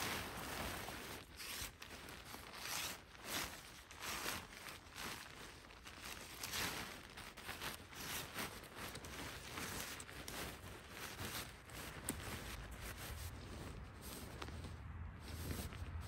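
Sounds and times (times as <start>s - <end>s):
footsteps in leaf litter: 0.0s - 16.0s
tent fabric rustling: 0.0s - 16.0s.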